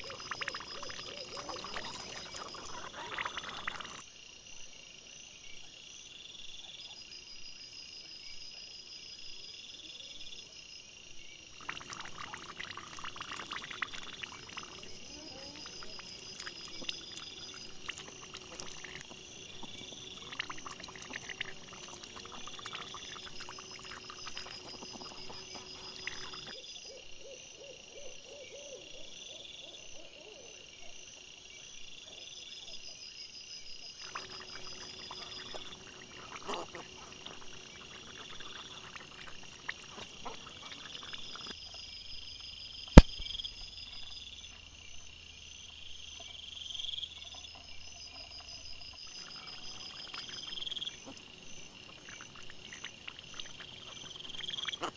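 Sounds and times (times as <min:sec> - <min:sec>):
night insects chirping: 0:00.0 - 0:54.9.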